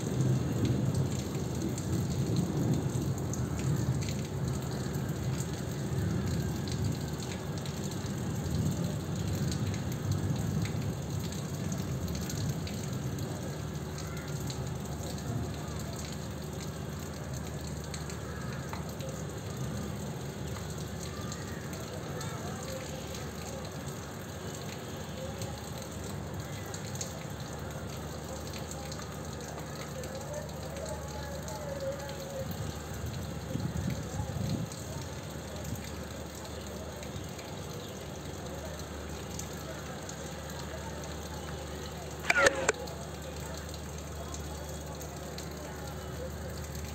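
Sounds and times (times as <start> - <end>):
continuous low rumble: 0.0 - 46.9
steady rain falling: 0.0 - 46.9.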